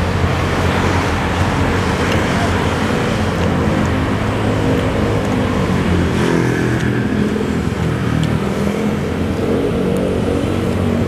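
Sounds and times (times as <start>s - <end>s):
motorcycle and car engines: 0.0s - 11.0s.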